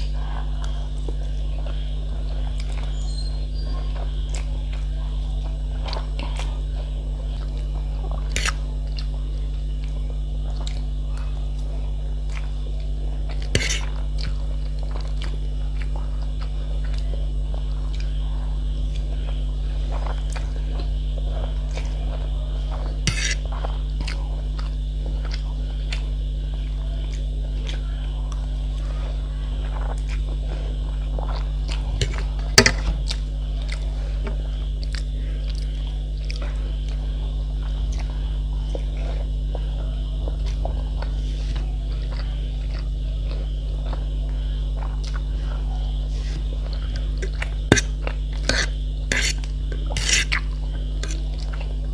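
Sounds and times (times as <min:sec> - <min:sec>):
low electrical hum: 0:00.0 - 0:51.9
person chewing food: 0:00.0 - 0:51.9.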